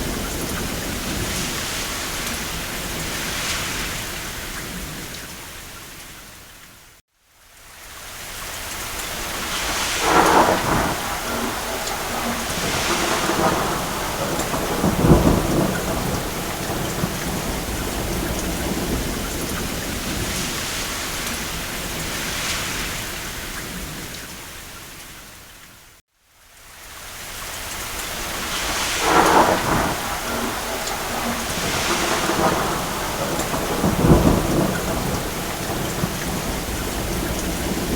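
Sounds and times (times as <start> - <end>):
thunder rumbling: 0.0 - 5.4, 9.0 - 24.2, 28.0 - 37.9
steady rain: 0.0 - 37.9.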